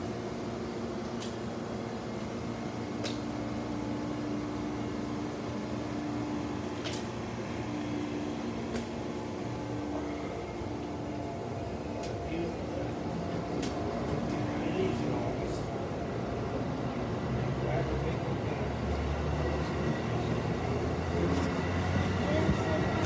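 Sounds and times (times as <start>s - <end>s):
train cars humming: 0.0s - 23.0s.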